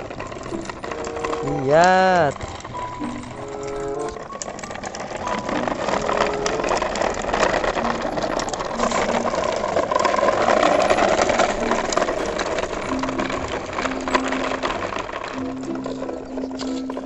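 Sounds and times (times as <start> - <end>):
plastic toy truck rolling on concrete: 0.0 - 17.0.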